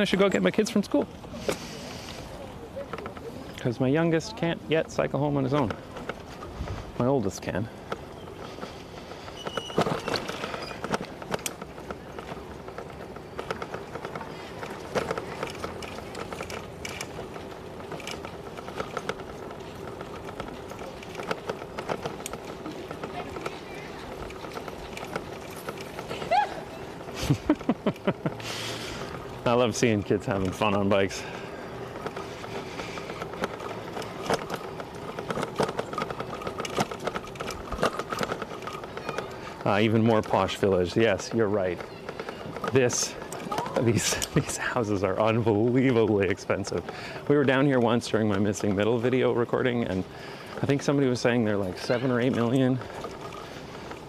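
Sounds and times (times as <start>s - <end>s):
bicycle rattling: 0.0s - 54.0s
steady background hum: 0.0s - 54.0s.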